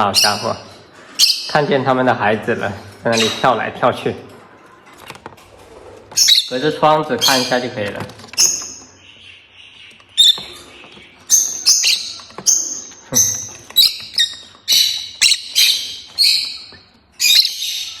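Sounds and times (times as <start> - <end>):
parrots chirping: 0.0 - 1.9, 3.1 - 3.6, 5.8 - 18.0.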